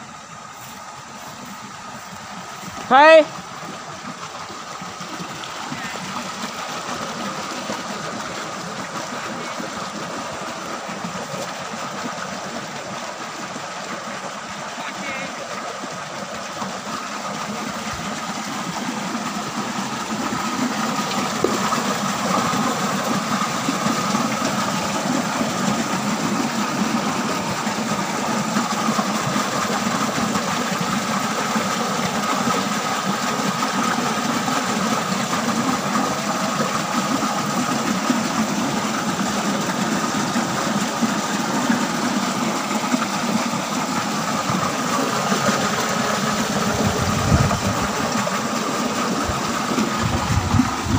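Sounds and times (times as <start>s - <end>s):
water pouring into pond: 0.0s - 50.9s.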